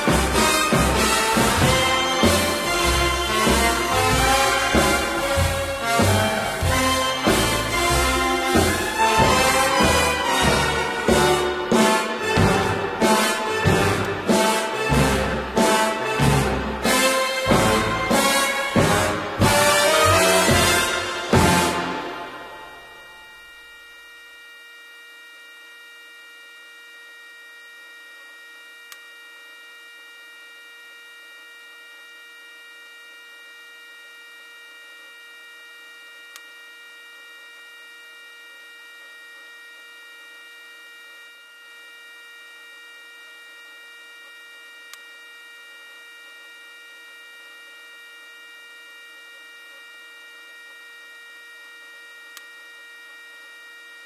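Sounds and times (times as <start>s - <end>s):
electrical hum with whining tones: 0.0s - 54.0s.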